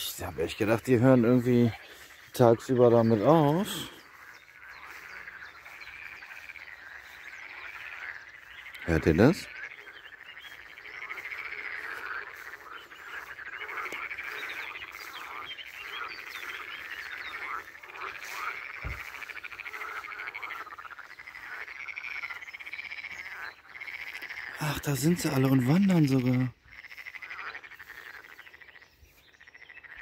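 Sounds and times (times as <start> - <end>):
chorus of frogs croaking: 0.0 - 30.0.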